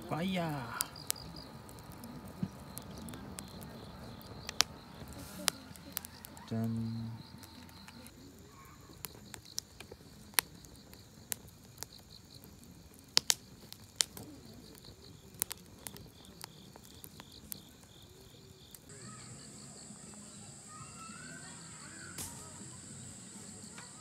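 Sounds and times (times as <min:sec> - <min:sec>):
sharp pops from fire: 0:00.0 - 0:18.9, 0:21.9 - 0:23.0
insects chirping: 0:00.0 - 0:24.0
wood fire crackling: 0:00.0 - 0:24.0.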